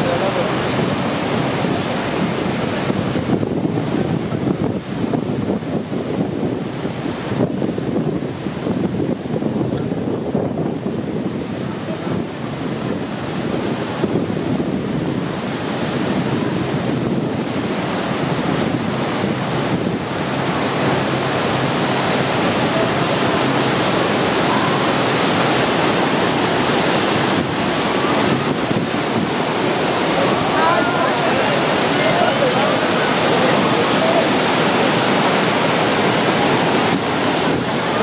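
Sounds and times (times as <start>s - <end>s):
waterfall rushing: 0.0s - 38.0s
wind buffeting microphone: 0.0s - 38.0s.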